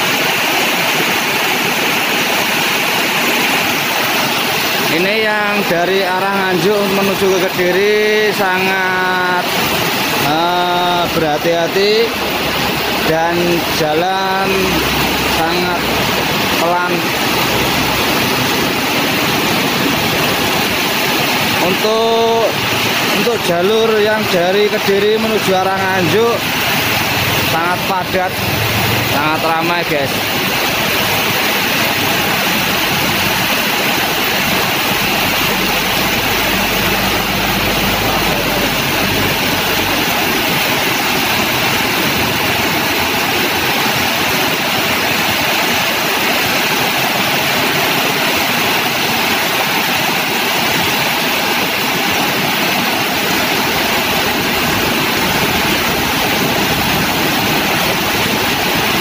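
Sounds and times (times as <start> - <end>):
heavy rain hissing: 0.0 - 59.0
tyres splashing through water: 0.0 - 59.0.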